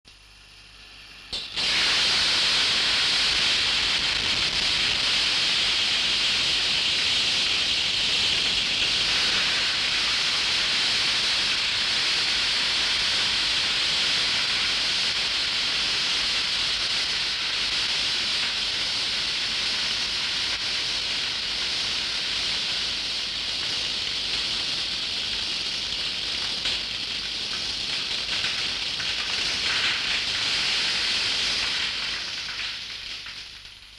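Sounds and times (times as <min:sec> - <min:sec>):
torch flame hissing: 0:01.3 - 0:33.9.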